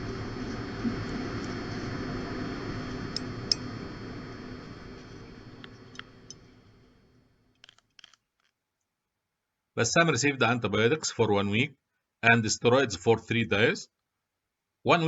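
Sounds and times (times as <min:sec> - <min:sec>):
room background hum: 0:00.0 - 0:15.0.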